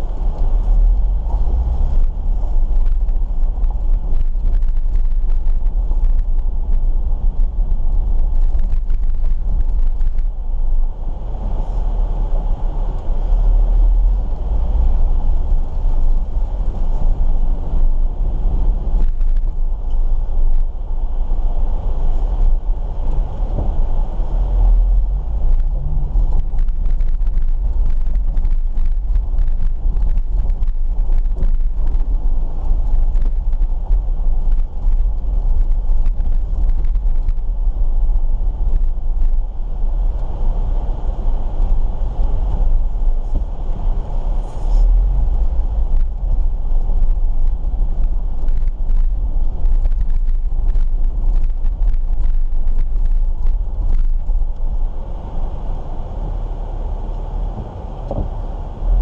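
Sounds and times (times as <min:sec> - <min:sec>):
engine and tyres rumbling on gravel: 0:00.0 - 0:59.0.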